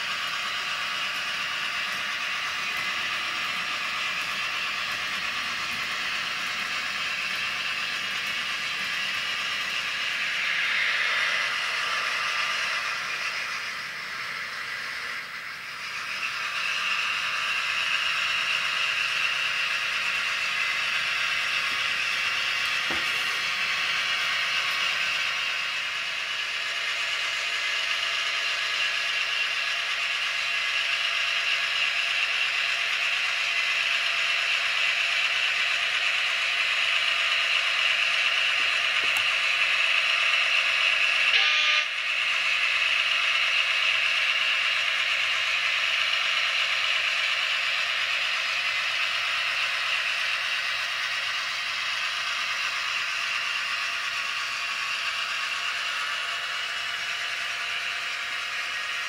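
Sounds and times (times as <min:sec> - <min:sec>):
diesel engine sound from small speaker: 0:00.0 - 0:59.0.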